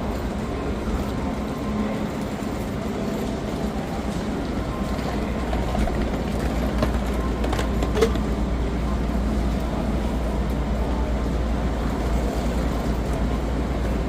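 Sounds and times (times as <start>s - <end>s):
train humming and rumbling: 0.0s - 14.0s.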